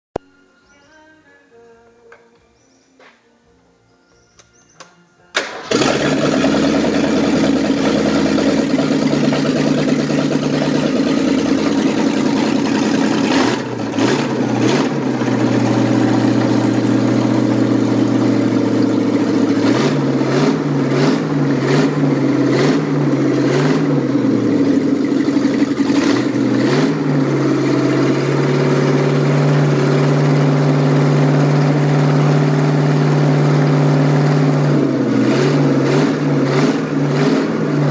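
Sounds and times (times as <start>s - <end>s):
car engine starting and revving: 5.4s - 37.9s.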